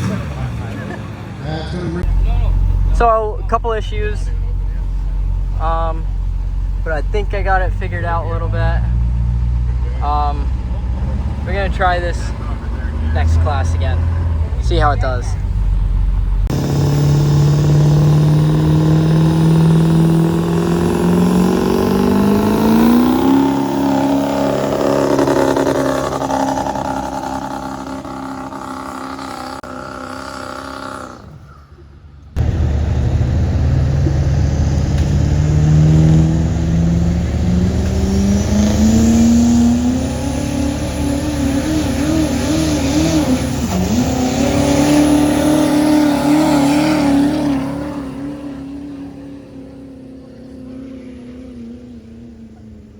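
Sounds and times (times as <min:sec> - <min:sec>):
diesel truck engine under heavy load: 0:00.0 - 0:52.9.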